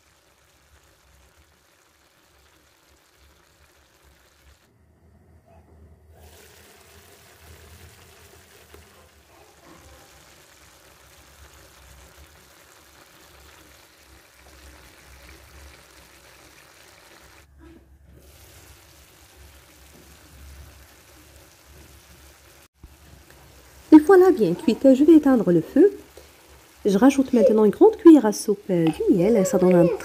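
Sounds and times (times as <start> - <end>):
food simmering in a frying pan: 0.0 - 4.7, 6.2 - 17.5, 18.2 - 30.0.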